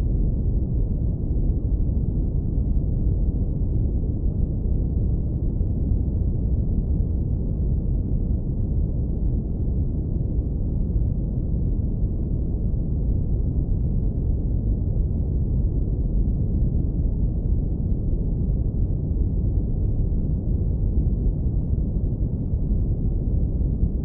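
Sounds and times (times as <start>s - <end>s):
deep brown noise rumble: 0.0s - 24.0s.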